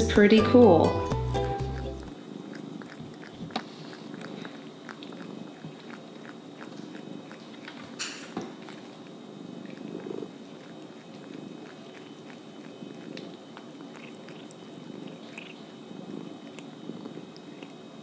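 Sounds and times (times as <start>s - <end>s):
cat chewing raw meat: 1.1s - 18.0s
cat purring: 1.1s - 18.0s.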